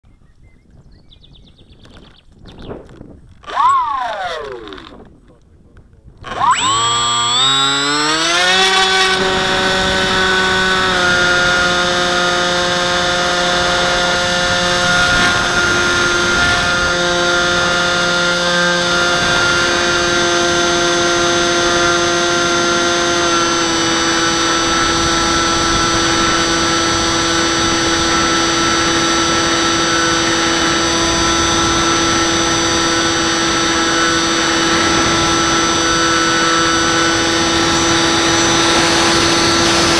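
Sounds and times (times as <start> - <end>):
model plane electric motor whine: 1.9 - 5.2, 6.2 - 39.9.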